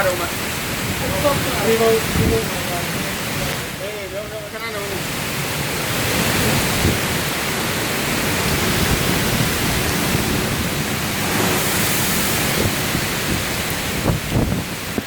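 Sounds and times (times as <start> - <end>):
storm wind roaring: 0.0 - 4.4, 5.0 - 15.0
driving water: 0.0 - 15.0.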